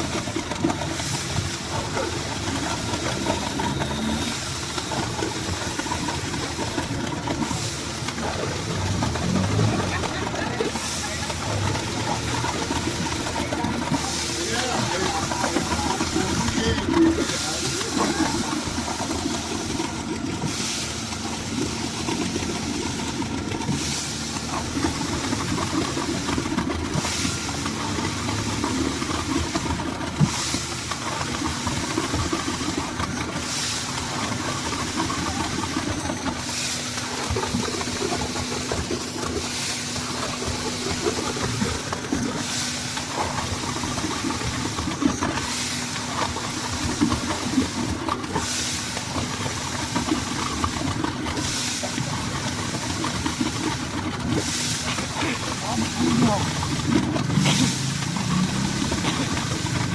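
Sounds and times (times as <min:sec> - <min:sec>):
concrete mixer engine running: 0:00.0 - 0:59.9.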